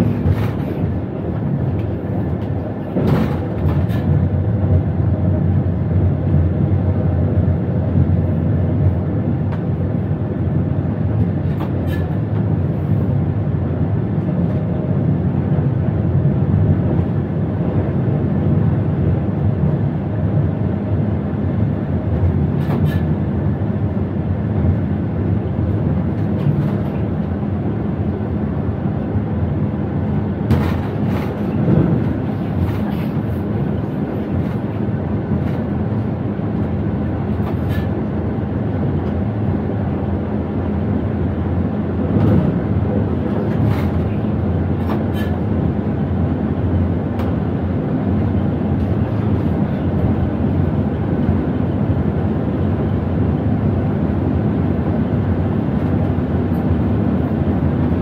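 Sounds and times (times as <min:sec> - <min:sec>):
electric train rumbling: 0:00.0 - 0:58.0.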